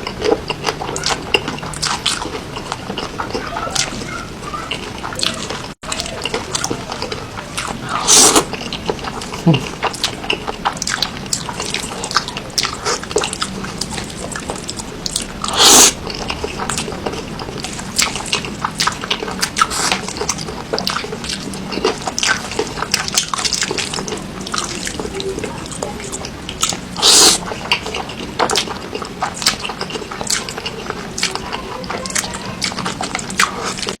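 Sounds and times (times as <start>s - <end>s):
wet chewing and smacking: 0.0s - 34.0s.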